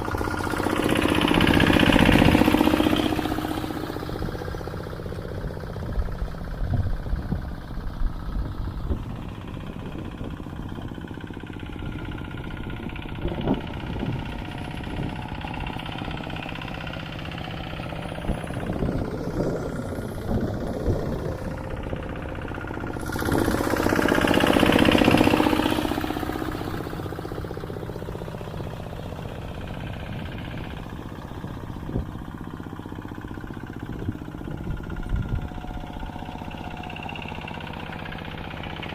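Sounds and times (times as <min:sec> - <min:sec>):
tractor engine knocking: 0:00.0 - 0:38.9.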